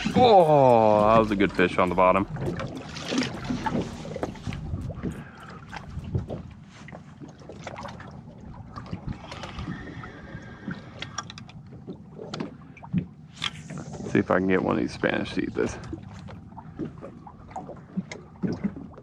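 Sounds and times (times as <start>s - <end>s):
water lapping against boat hull: 0.0s - 19.0s.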